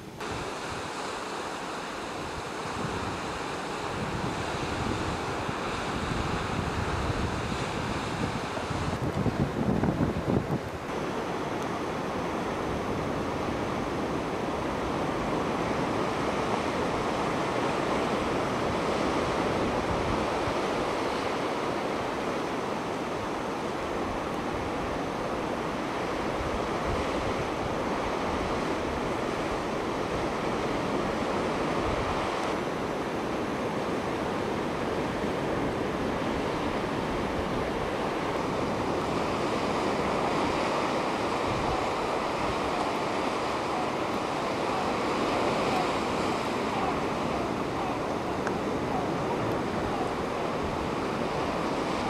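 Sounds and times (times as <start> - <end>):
sea surf: 0.0 - 52.0.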